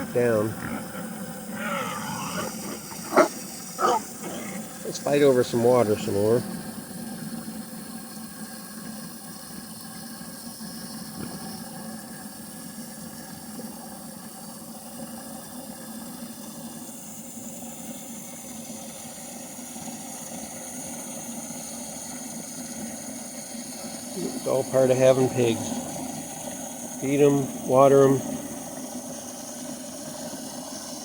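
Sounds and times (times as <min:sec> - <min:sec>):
water running from hose into tank: 0:00.0 - 0:31.0.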